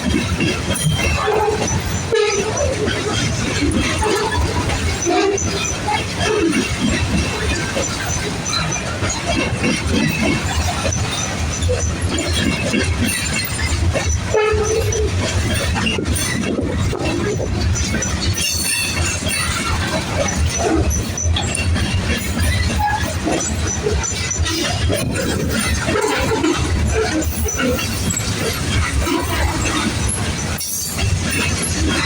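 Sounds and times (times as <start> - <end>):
freight train rumbling past: 0.0 - 32.0
train wheel squeal: 0.0 - 32.0
wheels clattering over rail joints: 0.0 - 32.0.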